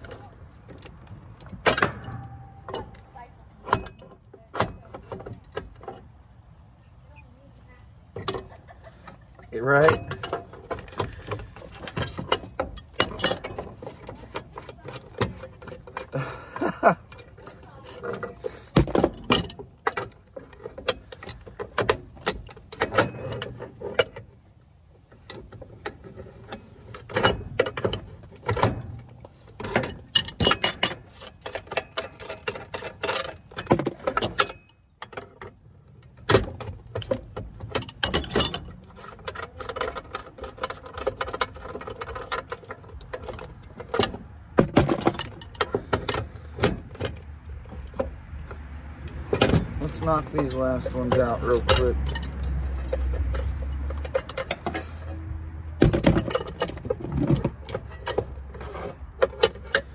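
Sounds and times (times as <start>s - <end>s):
metal parts clinking: 8.2s - 24.3s, 25.1s - 59.9s.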